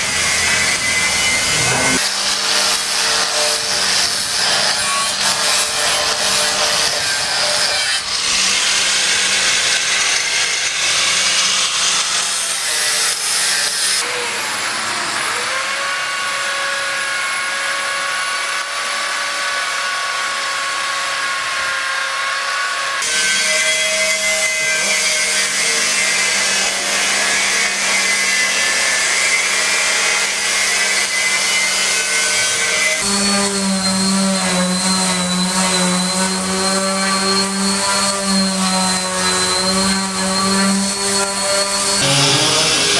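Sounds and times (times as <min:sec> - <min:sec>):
power tools running: 0:00.0 - 0:17.5, 0:24.6 - 0:42.9.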